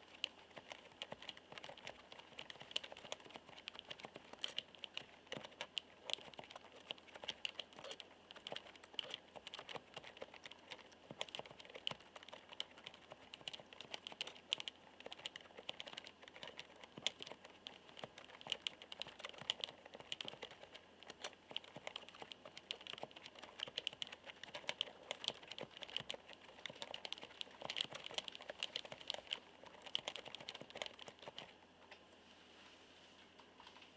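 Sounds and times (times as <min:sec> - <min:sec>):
keyboard typing clicks: 0:00.2 - 0:31.5.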